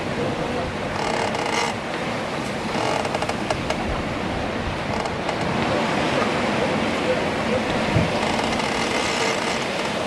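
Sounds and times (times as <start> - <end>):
steady rushing noise aboard ship: 0.0 - 10.0.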